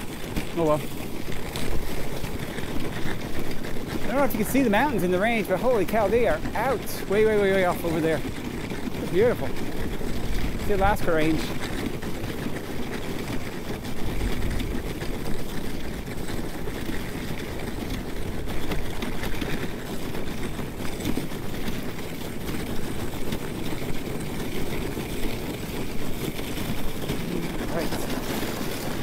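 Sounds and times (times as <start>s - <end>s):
sled runners sliding over snow: 0.0s - 29.0s.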